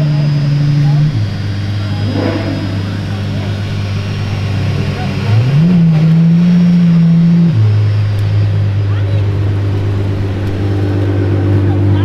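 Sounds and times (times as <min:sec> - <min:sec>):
car engine revving then idling: 0:00.0 - 0:12.0.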